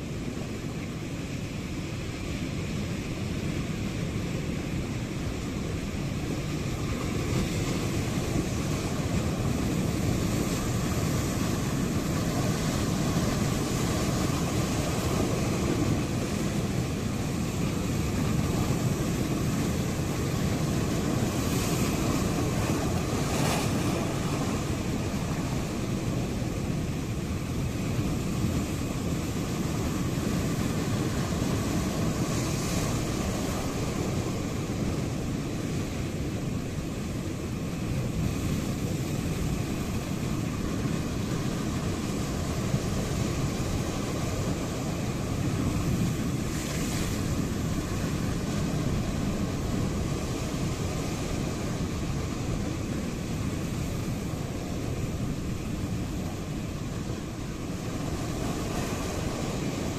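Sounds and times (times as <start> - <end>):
ocean waves breaking: 0.0 - 59.9
splashing hiss of surf: 0.0 - 59.9.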